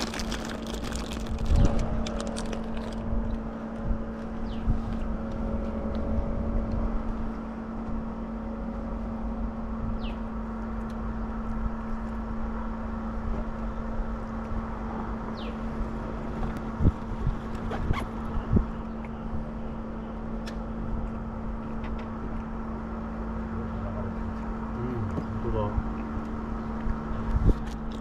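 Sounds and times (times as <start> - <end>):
low motor hum: 0.0 - 28.0.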